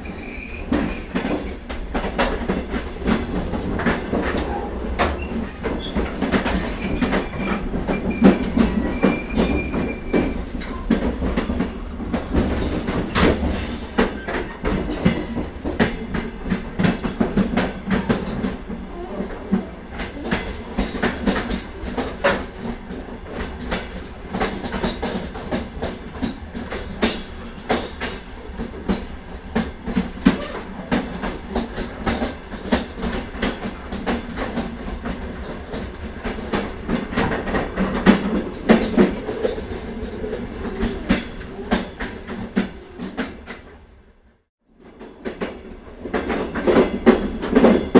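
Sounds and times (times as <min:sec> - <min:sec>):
train rumbling: 0:00.0 - 0:47.9.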